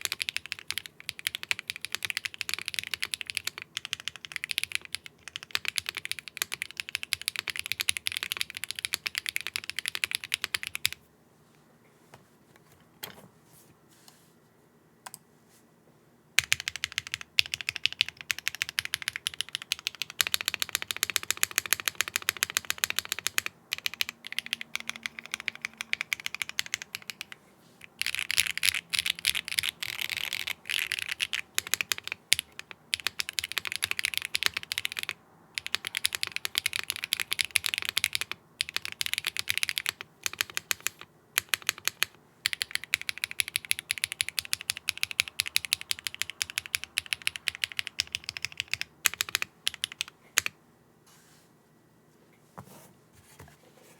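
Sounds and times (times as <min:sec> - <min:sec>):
mechanical keyboard typing: 0:00.0 - 0:11.0, 0:16.4 - 0:50.6.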